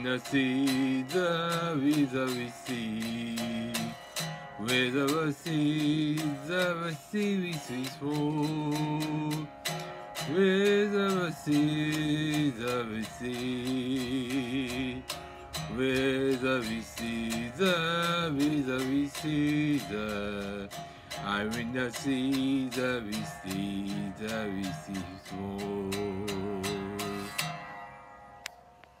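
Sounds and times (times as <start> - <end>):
man singing: 0.0 - 27.6
strummed electric guitar: 0.0 - 29.0.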